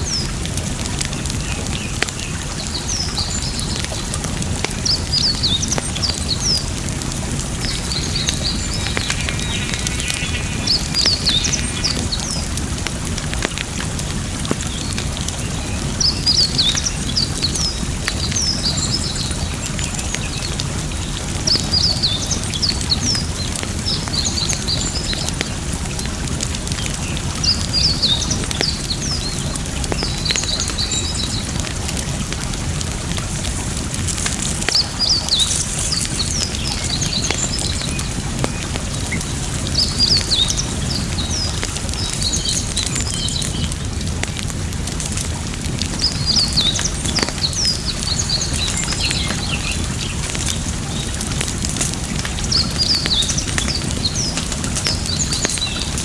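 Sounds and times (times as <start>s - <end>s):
small birds chirping: 0.0s - 43.8s, 45.6s - 56.0s
campfire crackling: 0.0s - 56.0s
running water: 0.0s - 56.0s.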